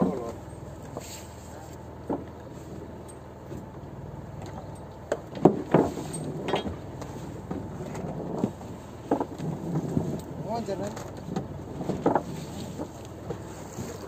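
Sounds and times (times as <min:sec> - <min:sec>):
boat engine hum: 0:00.0 - 0:14.0.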